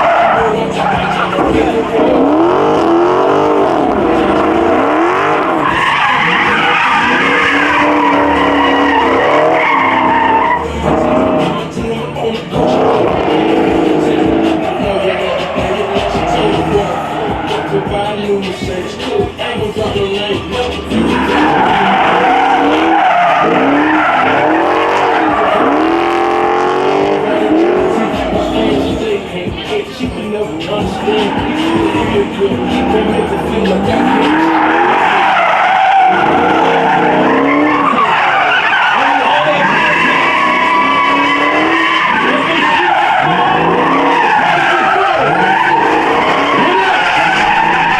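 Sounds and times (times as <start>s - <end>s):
car engine revving hard: 0.0s - 47.9s
loud tyre roar: 0.0s - 47.9s
tires squealing and skidding: 0.0s - 47.9s.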